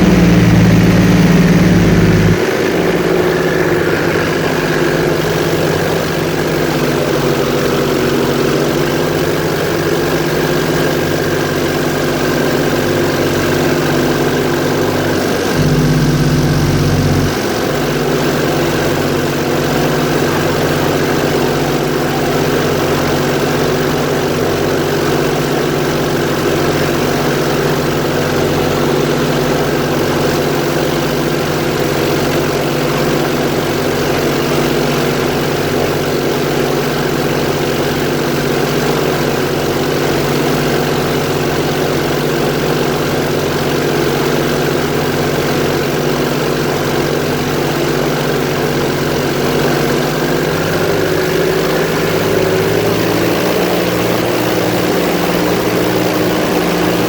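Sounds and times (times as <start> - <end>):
airboat engine and propeller: 0.0 - 57.0.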